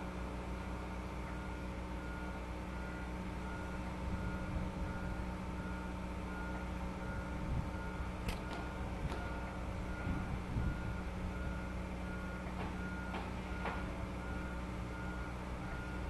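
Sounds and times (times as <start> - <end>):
machinery humming: 0.0 - 16.0
short high warning beeps: 1.3 - 16.0.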